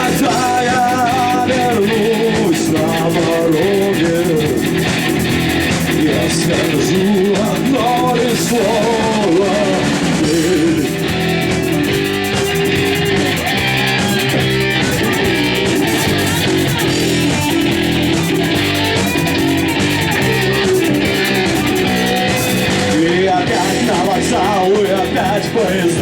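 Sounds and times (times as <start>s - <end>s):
bass guitar: 0.0s - 26.0s
electric guitar: 0.0s - 26.0s
rock band instrumental: 0.0s - 26.0s.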